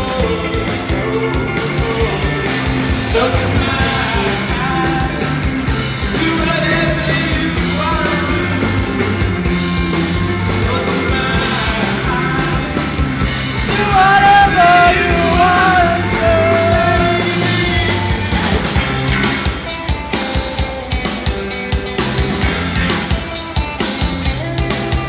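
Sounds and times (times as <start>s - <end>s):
held melody line bending: 0.0s - 25.0s
loud rock song: 0.0s - 25.0s.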